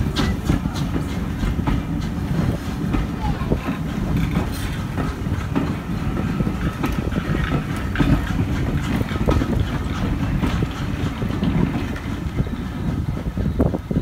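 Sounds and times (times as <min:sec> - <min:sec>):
train carriage wheels rumbling: 0:00.0 - 0:14.0
wheels clicking over rail joints: 0:00.0 - 0:14.0.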